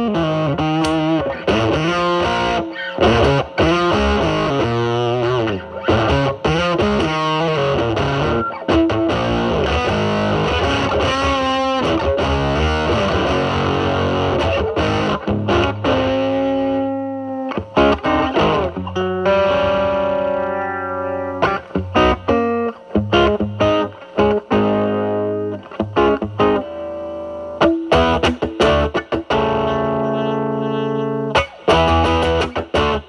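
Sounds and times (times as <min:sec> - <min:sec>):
fuzzed electric guitar: 0:00.0 - 0:33.0.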